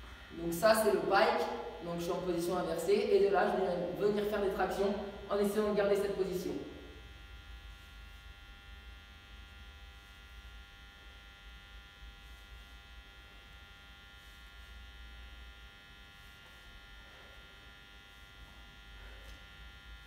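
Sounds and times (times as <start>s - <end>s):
electrical buzzing hum: 0.0s - 20.0s.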